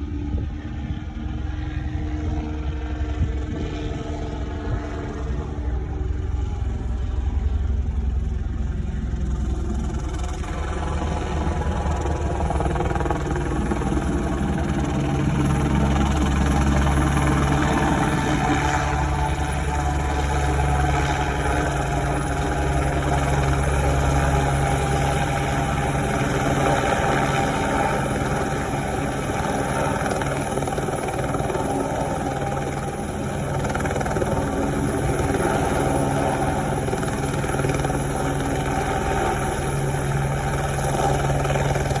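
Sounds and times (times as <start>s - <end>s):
helicopter engine and rotor: 0.0s - 42.0s.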